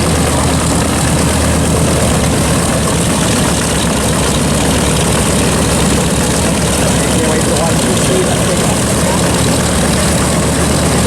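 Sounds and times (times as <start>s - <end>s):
piston engines idling: 0.0s - 11.0s.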